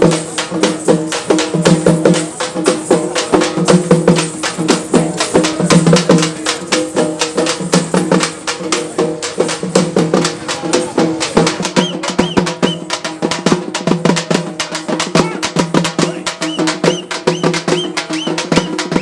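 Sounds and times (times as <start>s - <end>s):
folk dance music with percussion: 0.0s - 19.0s.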